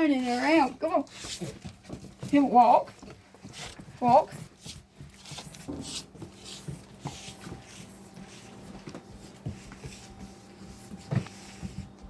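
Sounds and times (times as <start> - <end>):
puppy paws tapping on floor: 0.0 - 12.0.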